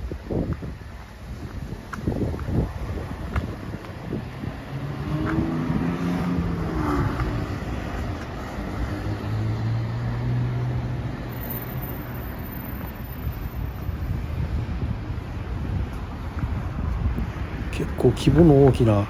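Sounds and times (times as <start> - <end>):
car and truck engines passing: 2.6 - 19.0.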